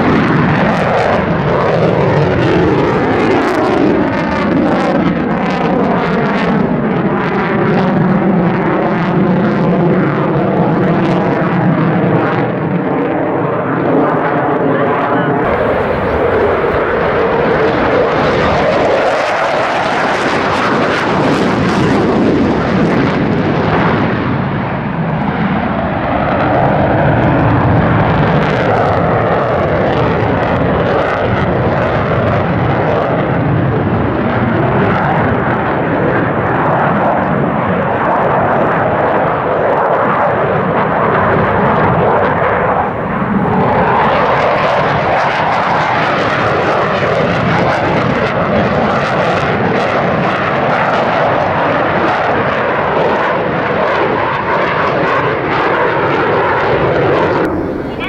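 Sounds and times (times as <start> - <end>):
jet engine noise: 0.0 - 58.0.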